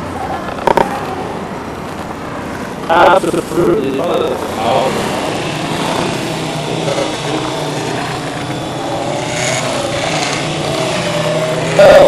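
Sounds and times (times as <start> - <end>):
motor drone with low hum: 0.0 - 12.0.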